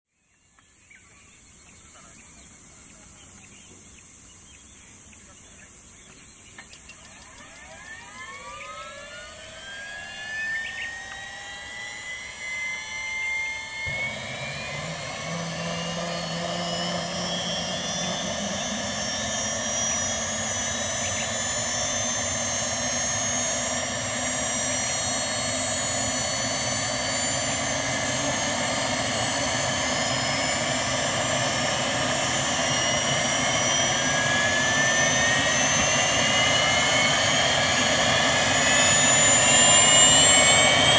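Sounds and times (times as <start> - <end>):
helicopter turbine whine: 0.2 - 40.9
engine rushing noise: 7.0 - 40.9.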